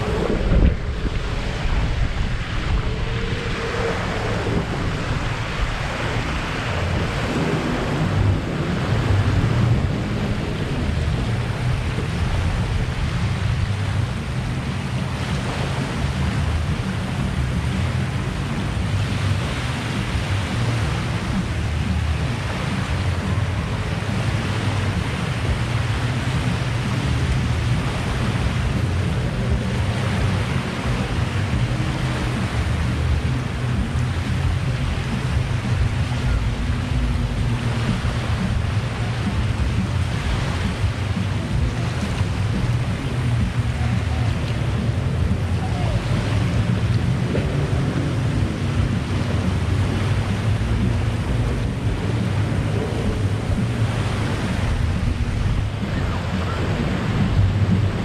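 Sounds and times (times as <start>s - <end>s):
small waves washing on shore: 0.0s - 58.0s
wind across microphone: 0.0s - 58.0s.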